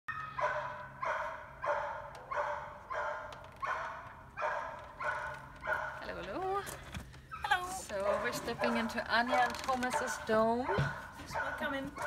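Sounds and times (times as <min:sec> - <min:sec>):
dog barking: 0:00.3 - 0:06.2, 0:07.4 - 0:12.0.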